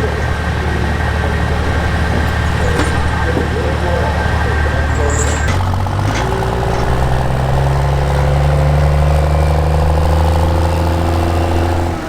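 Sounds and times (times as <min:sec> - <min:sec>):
diesel truck engine at high revs: 0:00.0 - 0:12.0.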